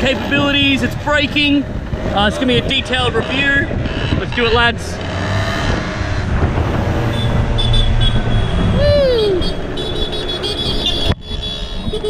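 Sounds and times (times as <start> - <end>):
scooter engines running: 0.0 - 12.0
wind and road noise: 0.0 - 12.0.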